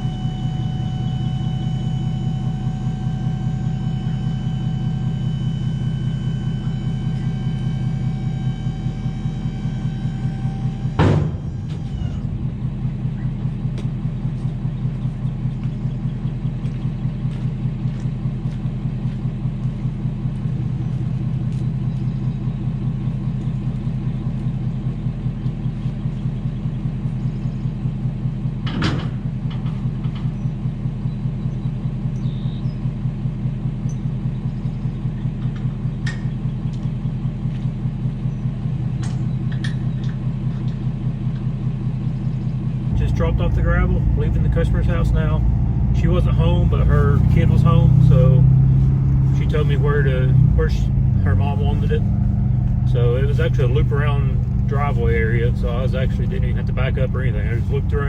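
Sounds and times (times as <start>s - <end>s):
pickup truck engine running: 0.0s - 58.0s.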